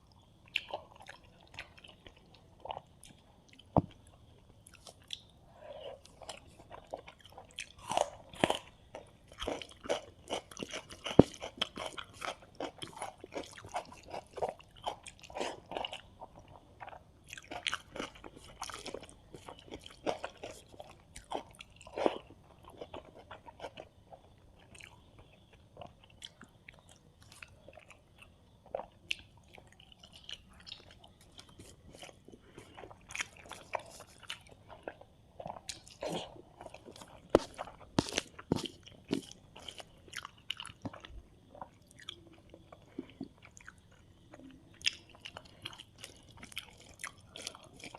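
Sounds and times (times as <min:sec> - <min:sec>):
crunching and chewing food: 0:00.0 - 0:47.9.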